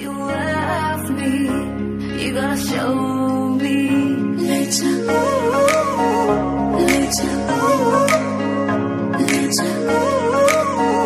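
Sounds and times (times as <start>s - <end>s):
instrumental film song music: 0.4s - 11.0s.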